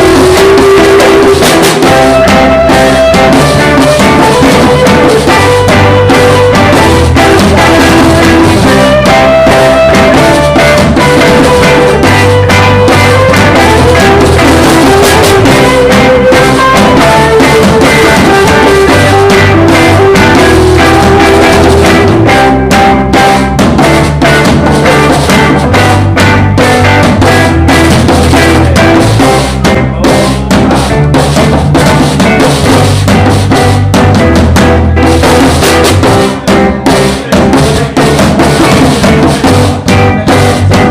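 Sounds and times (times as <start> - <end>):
distorted live band jamming: 0.0 - 40.9.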